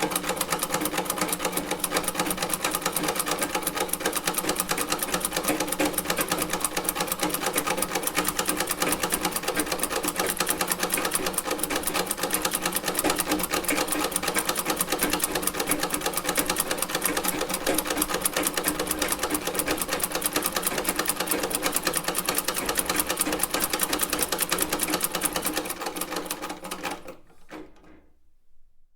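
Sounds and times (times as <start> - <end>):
sewing machine clattering: 0.0 - 28.1.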